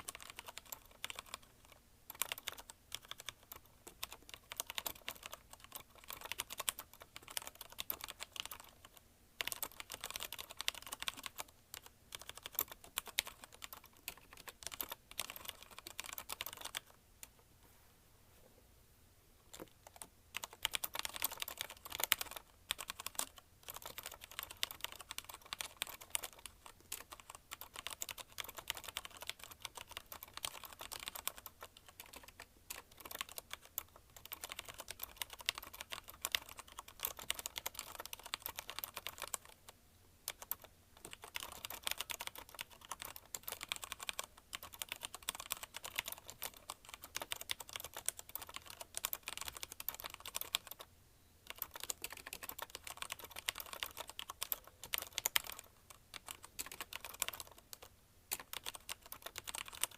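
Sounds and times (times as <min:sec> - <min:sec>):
fast typing on mechanical keyboard: 0:00.0 - 0:16.9, 0:19.5 - 0:39.6, 0:40.3 - 0:50.9, 0:51.5 - 0:59.9.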